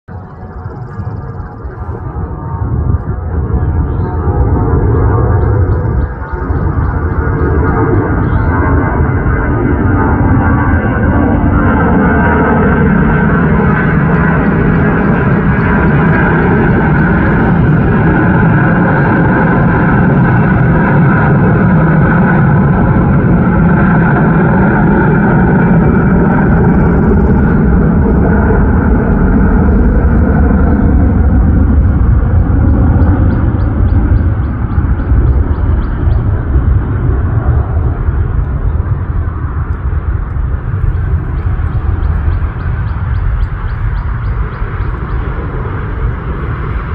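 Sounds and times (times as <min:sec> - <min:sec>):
jet engines rumbling at takeoff: 0:00.1 - 0:46.9.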